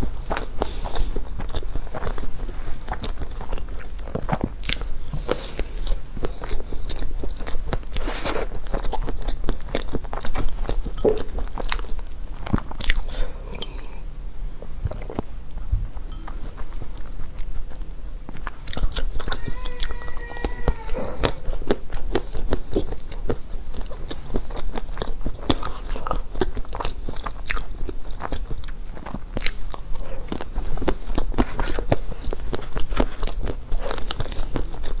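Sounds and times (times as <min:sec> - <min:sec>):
crunchy chewing: 0:00.0 - 0:13.9, 0:16.6 - 0:35.0.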